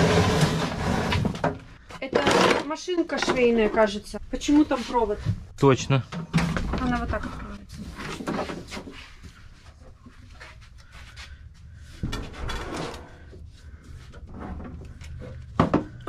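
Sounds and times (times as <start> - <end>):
wooden knocks and scraping: 0.0 - 5.5, 6.1 - 10.6, 11.9 - 16.0.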